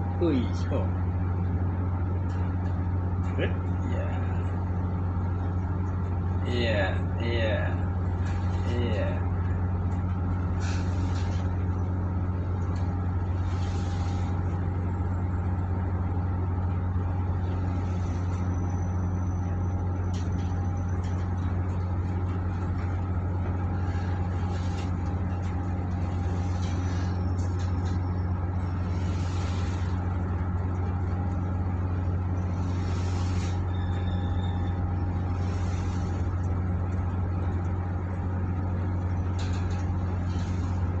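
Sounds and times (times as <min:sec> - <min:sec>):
ship engines droning: 0:00.0 - 0:41.0.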